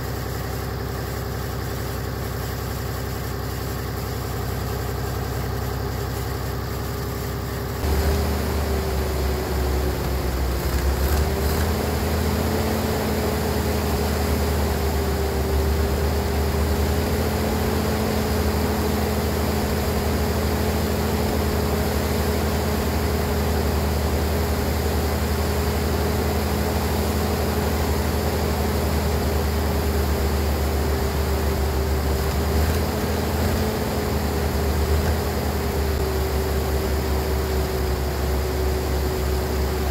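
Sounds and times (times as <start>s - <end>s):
tractor engine rumbling: 0.0s - 39.9s
truck engine idling: 0.1s - 39.9s
steady engine whine: 3.9s - 39.9s.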